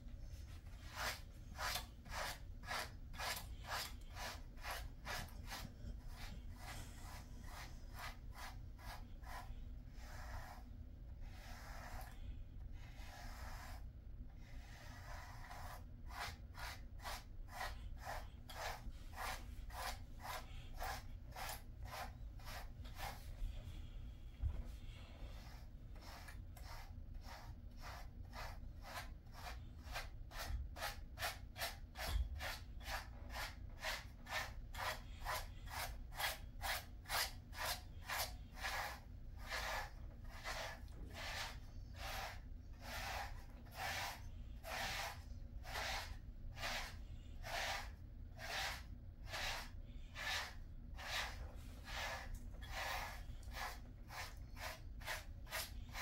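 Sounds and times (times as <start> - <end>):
brush scratching through dog fur: 0.0 - 56.0.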